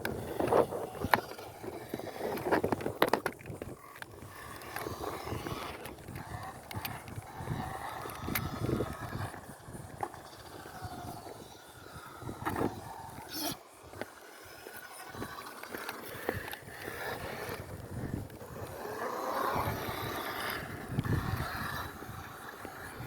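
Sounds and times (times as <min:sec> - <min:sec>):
toy car electric motor whining: 0:00.0 - 0:23.0.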